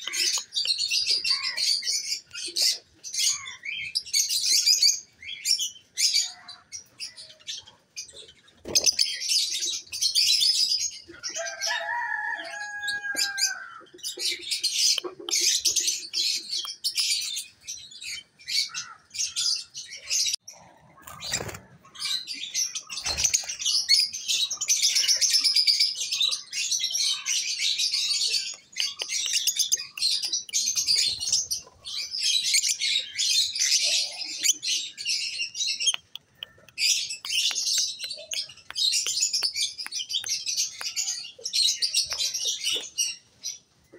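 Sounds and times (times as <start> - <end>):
lovebirds chirping: 0.0 - 12.0, 13.2 - 43.9.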